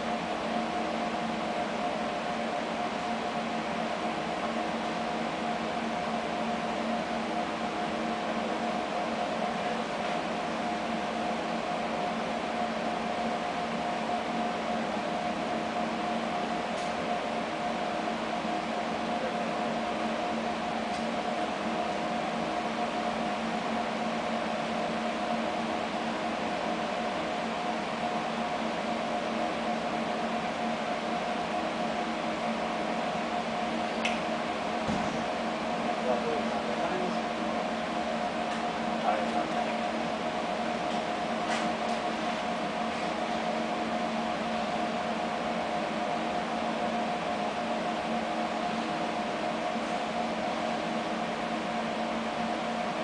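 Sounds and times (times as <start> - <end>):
mechanical hum and hiss: 0.0 - 53.0.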